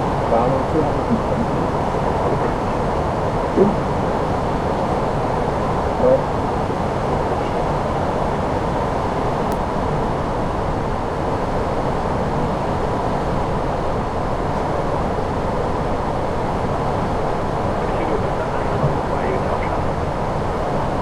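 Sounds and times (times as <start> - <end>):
cockpit airflow and engine noise: 0.0 - 21.0.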